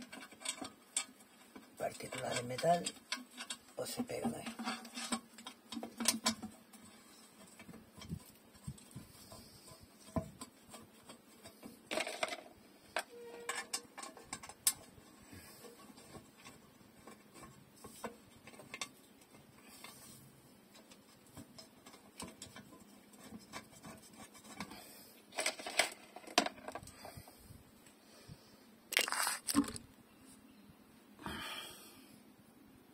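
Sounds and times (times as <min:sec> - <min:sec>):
scraping rustles: 0:00.0 - 0:30.5
rustling: 0:00.0 - 0:30.6.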